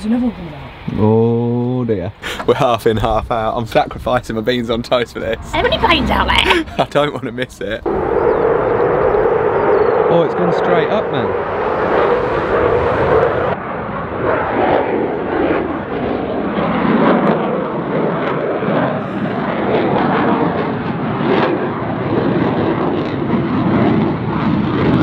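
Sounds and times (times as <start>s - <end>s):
fighter jet engine roar: 0.0s - 25.0s.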